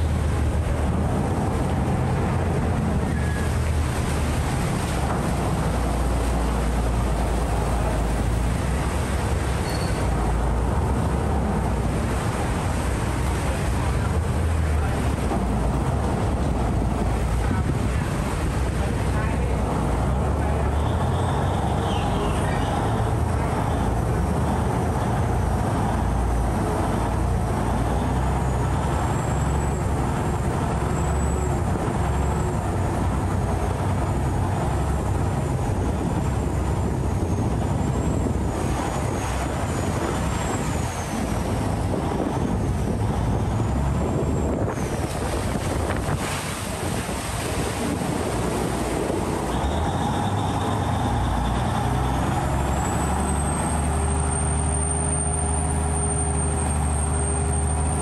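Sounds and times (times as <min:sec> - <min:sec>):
boat diesel engine running: 0:00.0 - 0:58.0.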